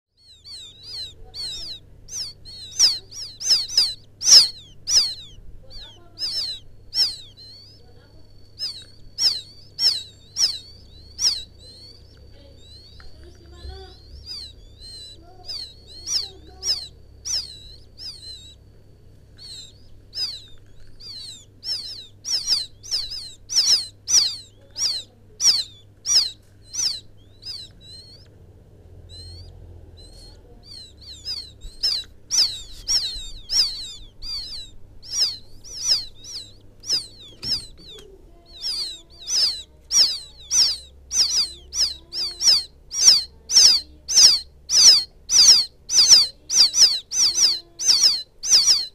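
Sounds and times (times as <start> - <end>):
chicks peeping: 0.2 - 48.9.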